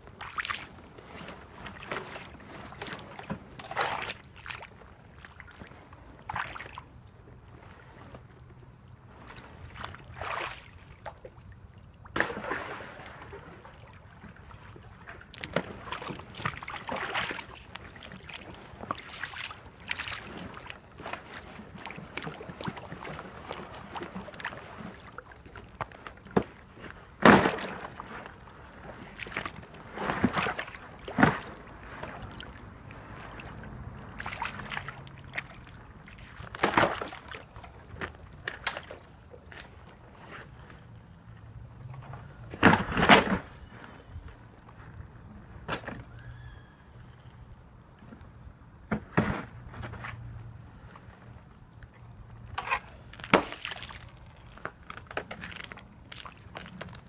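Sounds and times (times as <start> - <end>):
water sloshing: 0.0 - 57.0.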